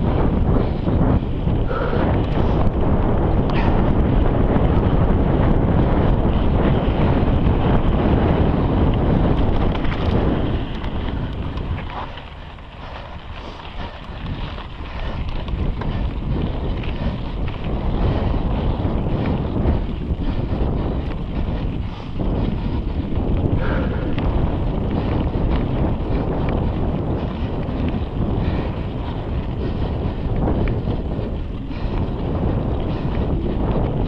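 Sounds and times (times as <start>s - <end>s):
bike tyres rumbling over dirt: 0.0s - 34.0s
wind rushing over microphone: 0.0s - 34.0s.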